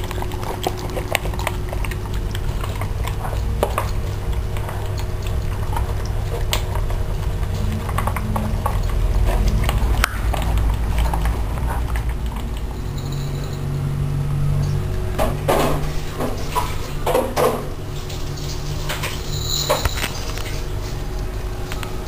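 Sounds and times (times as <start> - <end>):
dogs eating crunching: 0.0 - 22.0
steady low hum: 0.0 - 22.0.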